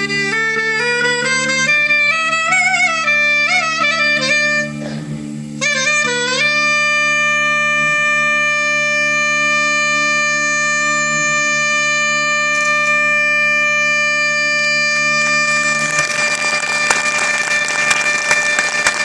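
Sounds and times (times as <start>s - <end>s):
reedy wind instrument melody: 0.0s - 19.0s.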